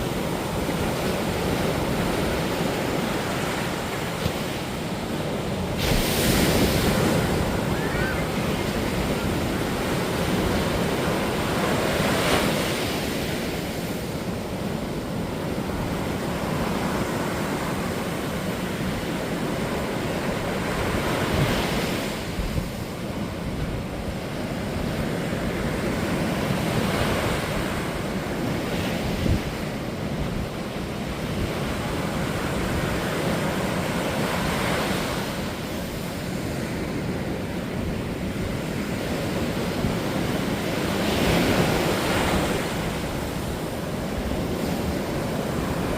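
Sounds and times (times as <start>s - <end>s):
waves crashing on beach: 0.0s - 45.9s.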